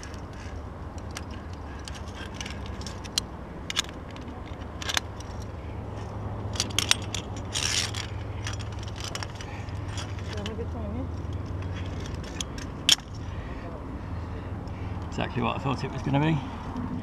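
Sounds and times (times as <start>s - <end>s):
carabiners clinking on steel cable: 0.0s - 13.6s
low steady rumble: 0.0s - 17.0s.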